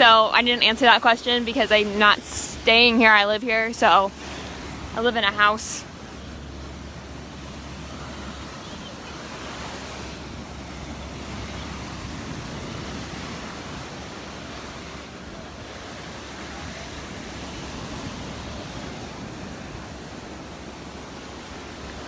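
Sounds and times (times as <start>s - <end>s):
surf washing onto beach: 0.0s - 22.0s
wind rumble on microphone: 0.0s - 22.0s.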